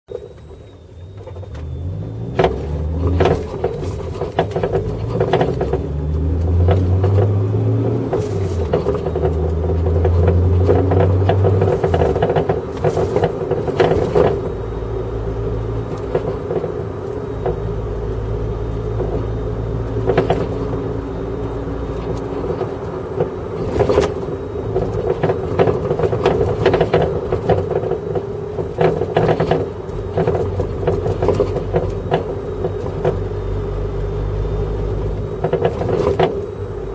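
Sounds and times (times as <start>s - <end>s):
road and engine rumble: 0.0s - 36.9s
suspension knocks and clunks: 0.1s - 36.9s.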